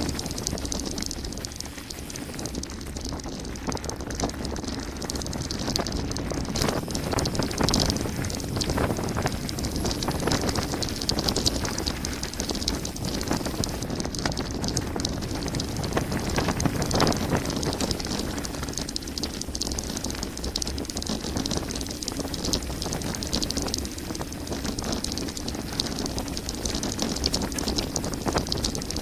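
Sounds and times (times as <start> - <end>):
bike rattling over bumps: 0.0 - 29.0
wind buffeting microphone: 0.0 - 29.0.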